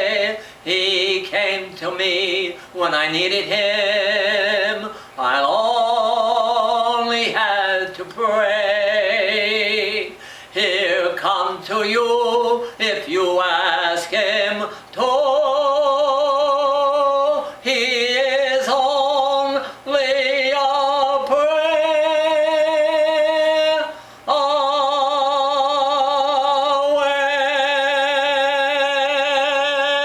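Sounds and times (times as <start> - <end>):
man singing a hymn a cappella: 0.0 - 30.0.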